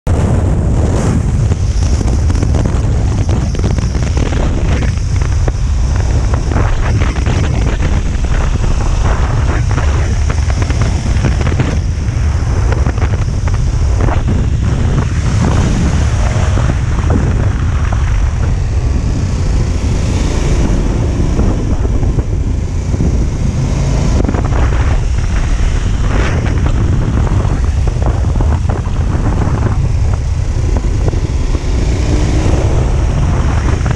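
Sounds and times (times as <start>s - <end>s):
wind rushing over microphone: 0.0s - 33.9s
motorcycle engine running: 0.2s - 33.9s.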